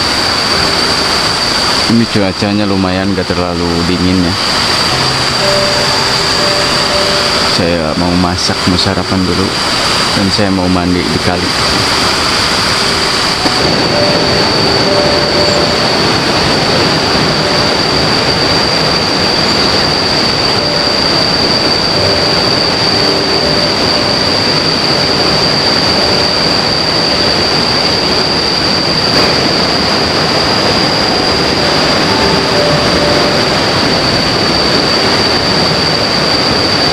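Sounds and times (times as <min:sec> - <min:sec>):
river water rushing: 0:00.0 - 0:01.9, 0:04.0 - 0:07.8, 0:09.5 - 0:10.4, 0:11.2 - 0:36.9
constant high-pitched whine: 0:00.0 - 0:36.9.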